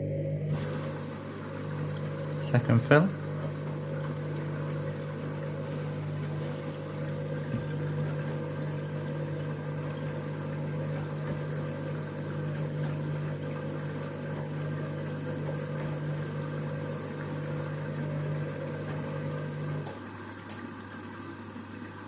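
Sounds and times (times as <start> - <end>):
washing machine humming: 0.0 - 22.0
water running into washing machine: 0.5 - 22.0.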